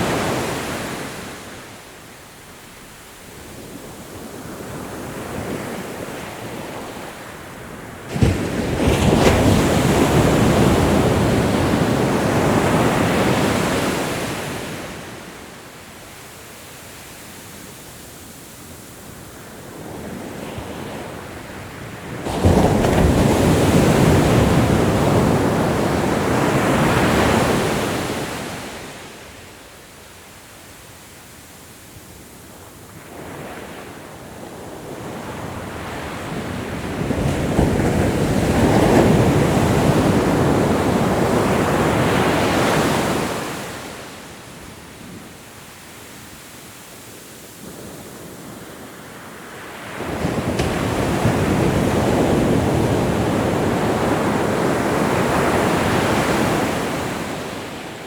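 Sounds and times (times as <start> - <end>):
ocean waves breaking on shore: 0.0 - 29.8, 32.1 - 58.0.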